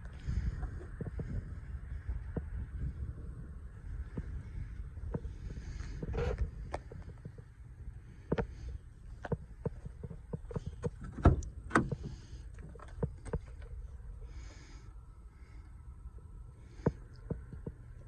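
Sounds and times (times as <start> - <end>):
wind on microphone rumble: 0.0 - 14.5, 15.4 - 18.0.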